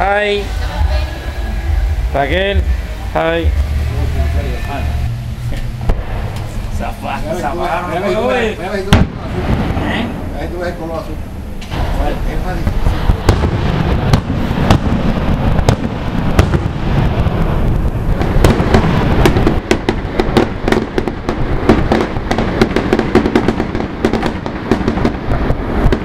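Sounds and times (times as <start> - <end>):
fireworks bursts rumbling: 0.0 - 26.0
fireworks crackling: 0.0 - 26.0.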